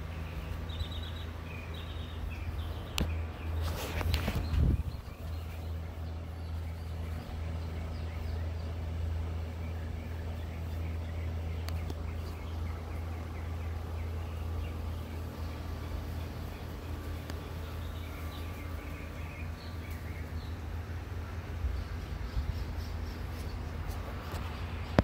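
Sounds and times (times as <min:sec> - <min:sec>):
birds chirping: 0:00.0 - 0:25.0
low hum: 0:00.0 - 0:25.0.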